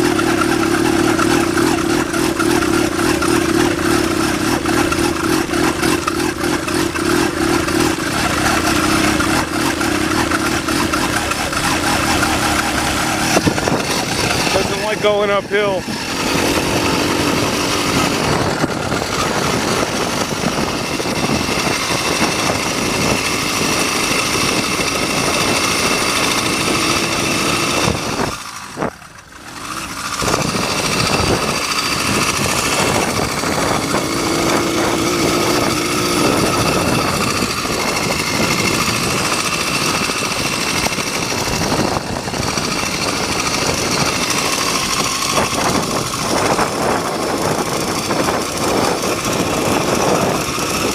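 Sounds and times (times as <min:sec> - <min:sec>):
two-stroke engine running: 0:00.0 - 0:50.9.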